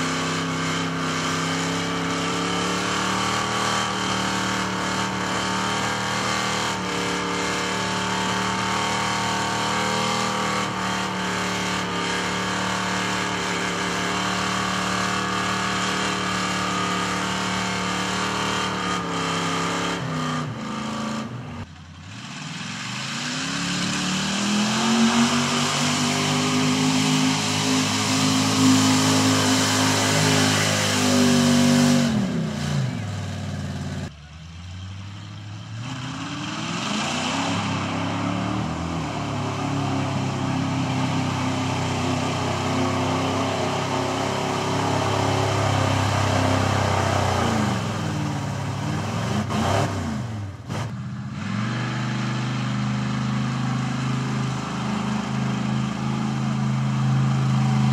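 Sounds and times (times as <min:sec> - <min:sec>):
truck engines revving: 0:00.0 - 0:57.9.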